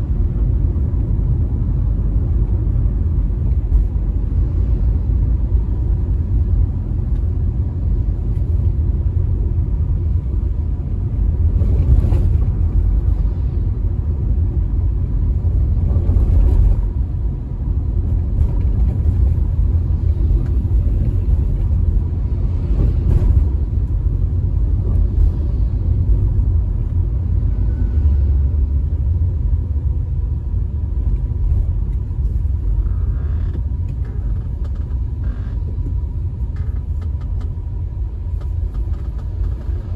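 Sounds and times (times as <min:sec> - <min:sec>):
car road and engine drone: 0:00.0 - 0:39.9
vehicles passing: 0:00.0 - 0:39.9.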